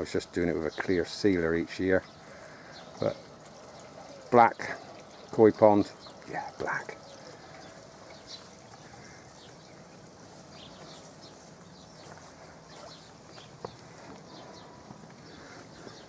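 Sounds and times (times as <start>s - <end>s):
small birds chirping: 0.0s - 16.0s
water trickling into pond: 0.0s - 16.0s.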